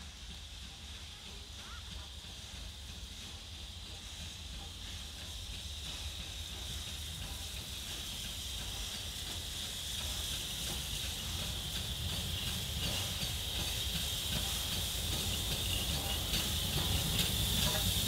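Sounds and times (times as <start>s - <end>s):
steam locomotive hiss: 0.0s - 18.0s.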